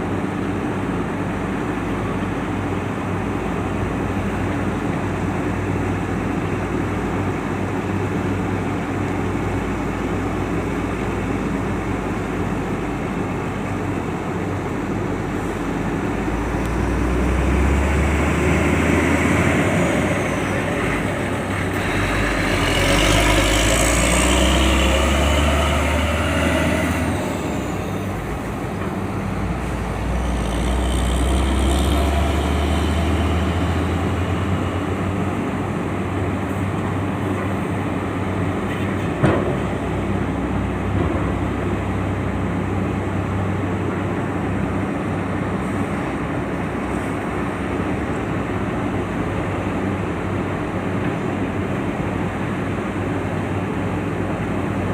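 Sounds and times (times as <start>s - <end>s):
truck engines passing: 0.0s - 54.9s.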